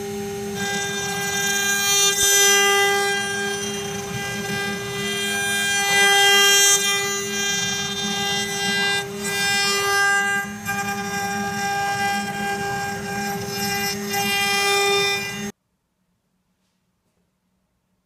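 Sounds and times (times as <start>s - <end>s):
router bit carving wood: 0.0s - 15.5s
router spindle whining: 0.0s - 15.5s.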